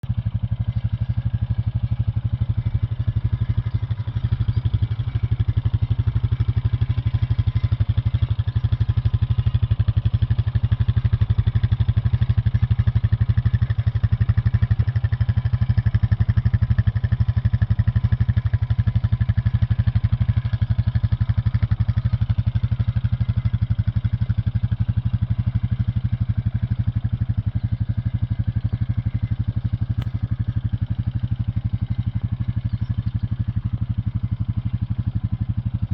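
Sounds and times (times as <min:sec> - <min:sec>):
quad bike engine idling: 0:00.0 - 0:35.9.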